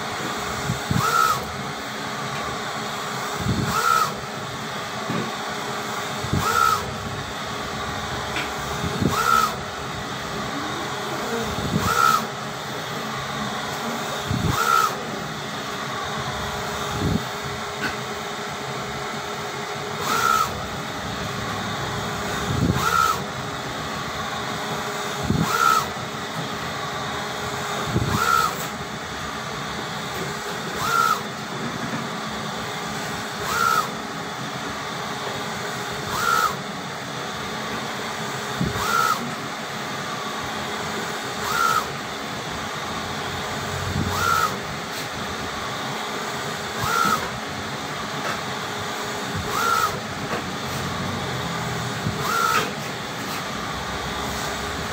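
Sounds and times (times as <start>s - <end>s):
printer machine hum: 0.0s - 54.9s.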